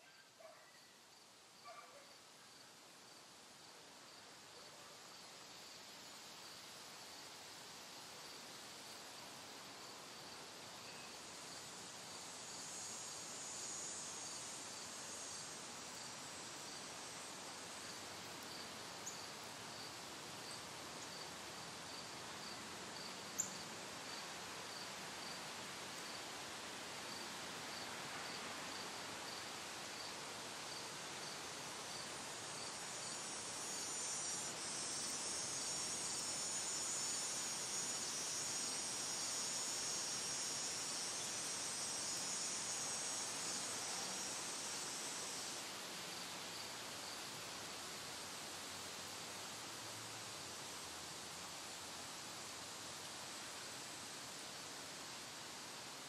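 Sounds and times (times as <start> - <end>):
hissing insect chorus: 0.0 - 56.0
insect chirping: 0.0 - 56.0.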